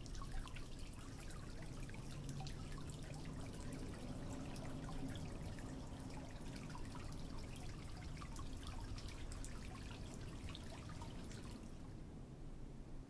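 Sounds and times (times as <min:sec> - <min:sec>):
water dripping: 0:00.0 - 0:11.9.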